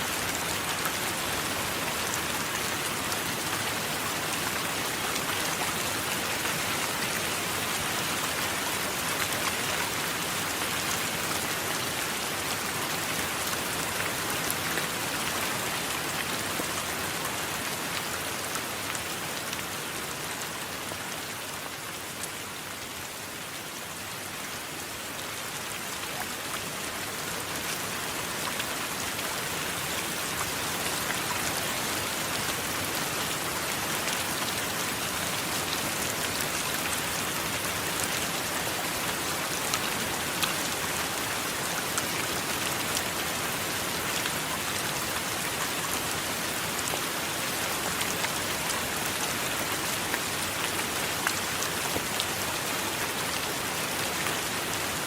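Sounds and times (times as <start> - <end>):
dense rainfall: 0.0 - 55.0.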